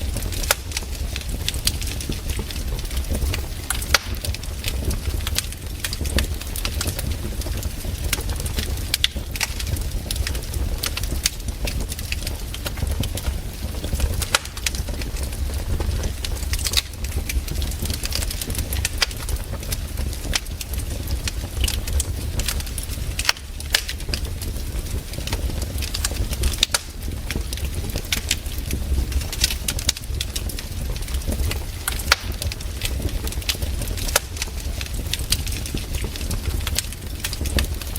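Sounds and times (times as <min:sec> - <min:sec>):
campfire crackling: 0:00.0 - 0:37.9
fire pops and snaps: 0:00.0 - 0:37.9
low rumble of burning fire: 0:00.0 - 0:37.9.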